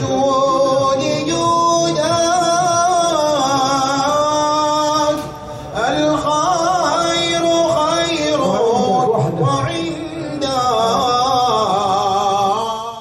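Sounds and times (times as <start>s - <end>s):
man singing chant-like melody: 0.0s - 13.0s.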